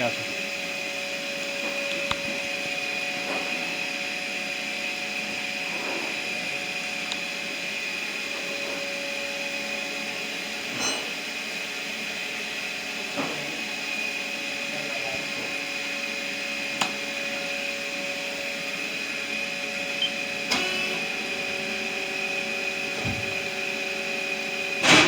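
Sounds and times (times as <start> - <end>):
machinery hum and whine: 0.0 - 25.0.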